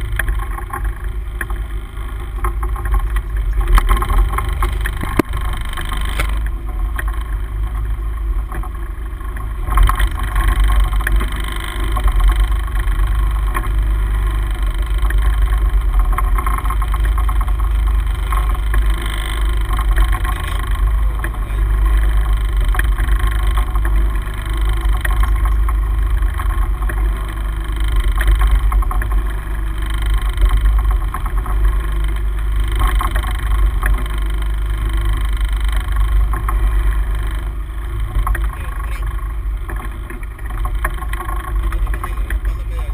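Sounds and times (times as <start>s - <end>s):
boat engine rumble: 0.0s - 42.9s.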